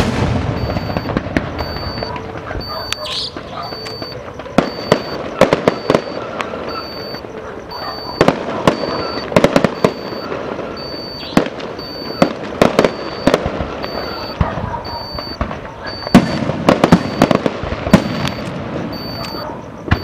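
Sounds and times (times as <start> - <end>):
fireworks bangs: 0.0 - 20.0
steady background noise: 0.0 - 20.0.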